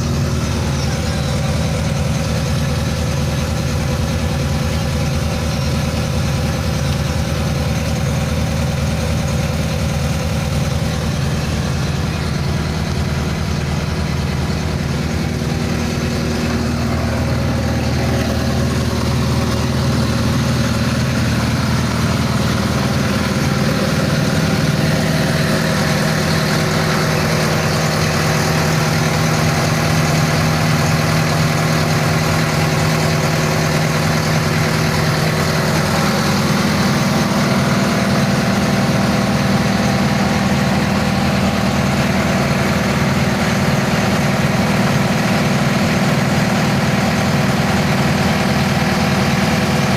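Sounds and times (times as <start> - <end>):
boat engine idling: 0.0 - 49.9.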